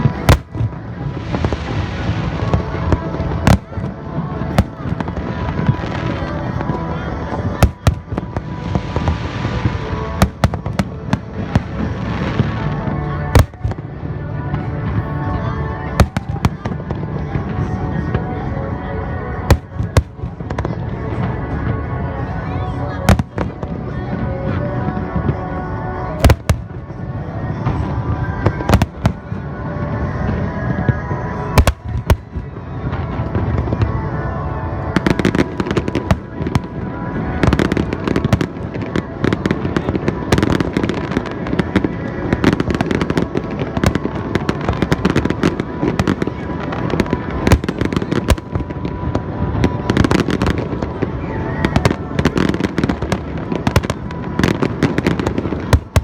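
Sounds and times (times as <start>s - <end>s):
fireworks bangs and crackling: 0.0s - 15.0s, 15.9s - 18.3s, 19.4s - 22.0s, 23.1s - 25.5s, 26.2s - 56.0s
music playing: 0.0s - 56.0s.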